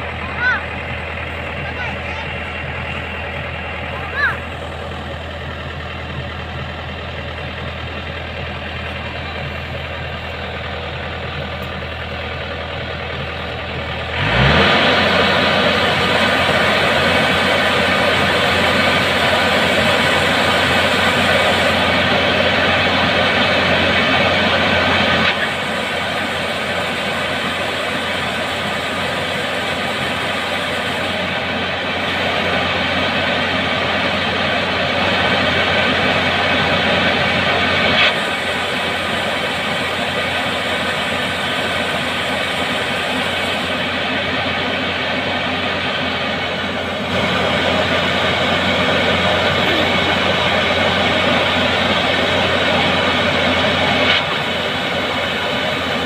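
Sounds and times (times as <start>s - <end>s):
combine harvester diesel engine: 0.0s - 56.0s
unloading auger discharging grain: 0.0s - 56.0s.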